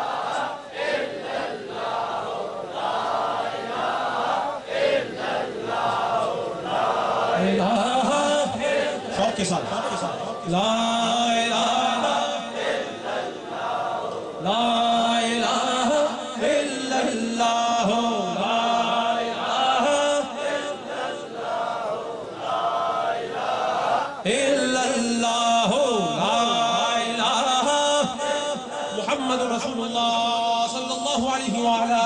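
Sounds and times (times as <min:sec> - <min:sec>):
men chanting: 0:00.0 - 0:32.0.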